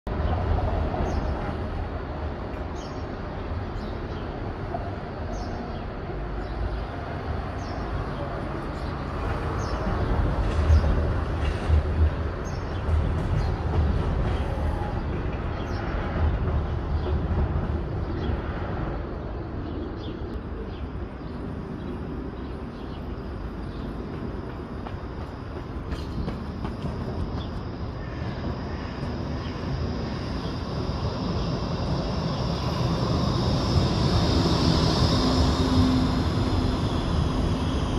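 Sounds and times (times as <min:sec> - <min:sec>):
traffic: 0:00.1 - 0:37.9
tram rumbling: 0:00.1 - 0:37.9.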